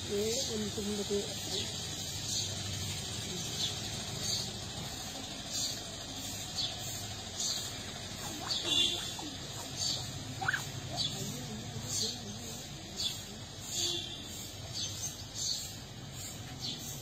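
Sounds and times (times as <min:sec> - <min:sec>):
low background hum: 0:00.0 - 0:17.0
bird chirping: 0:00.1 - 0:17.0.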